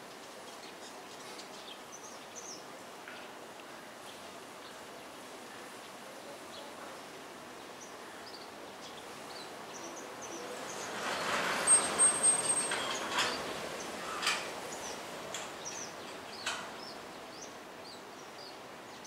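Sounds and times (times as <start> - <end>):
broad rush of noise: 0.0 - 19.0.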